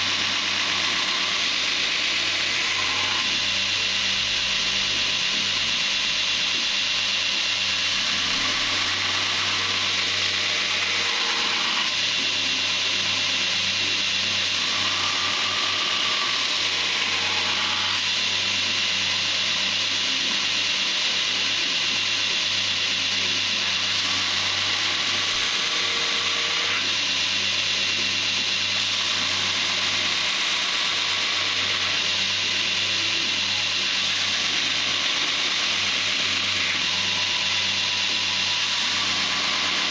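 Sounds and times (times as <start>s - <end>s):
belt grinder grinding steel: 0.0s - 39.9s
motor humming: 0.0s - 39.9s.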